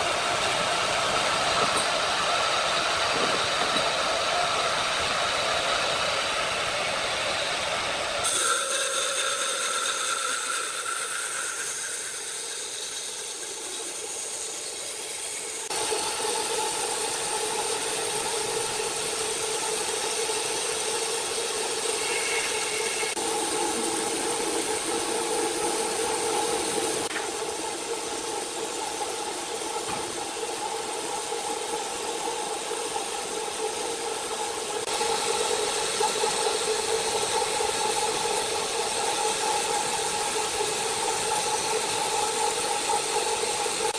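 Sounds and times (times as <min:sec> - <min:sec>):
hiss: 0:00.0 - 0:43.9
sawmill machinery humming: 0:00.0 - 0:43.9.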